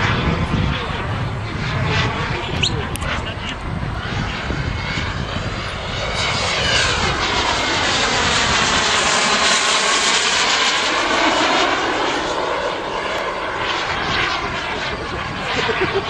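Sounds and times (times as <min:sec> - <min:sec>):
model jet flying overhead: 0:00.0 - 0:16.0.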